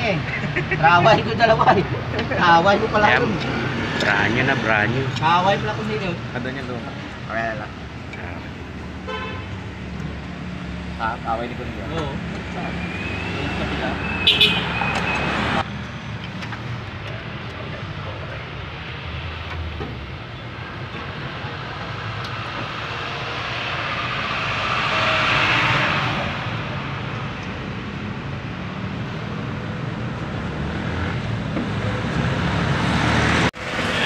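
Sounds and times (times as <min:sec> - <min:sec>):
road traffic engine hum: 0:00.0 - 0:34.0.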